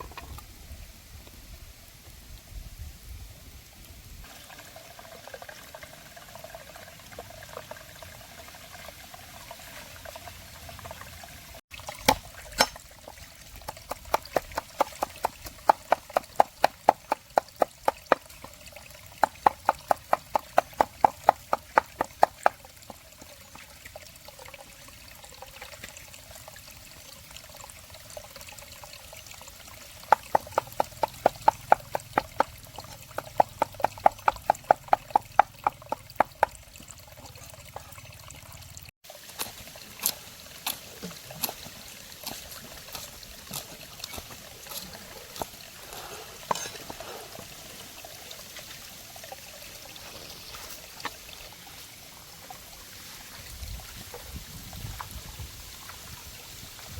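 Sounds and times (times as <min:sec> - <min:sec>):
running water: 0:03.6 - 0:56.9.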